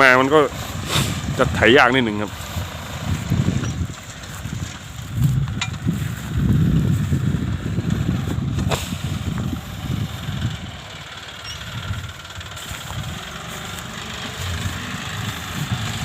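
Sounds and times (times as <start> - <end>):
tractor diesel engine rumble: 0.0 - 16.0.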